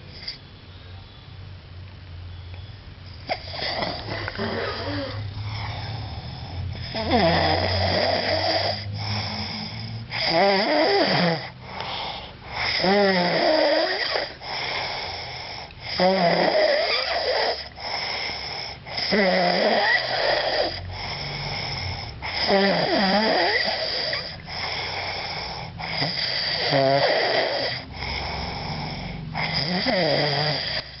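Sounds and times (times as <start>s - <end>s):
person snoring: 3.3s - 31.0s.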